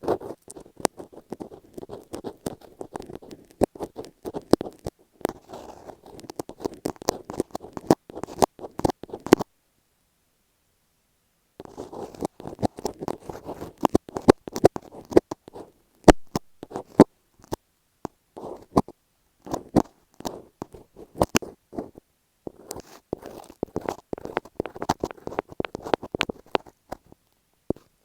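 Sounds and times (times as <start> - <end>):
crackly rubbing: 0.0 - 9.5, 11.6 - 17.6, 18.4 - 28.0
fingers tapping on microphone tape: 0.0 - 9.5, 11.6 - 27.9.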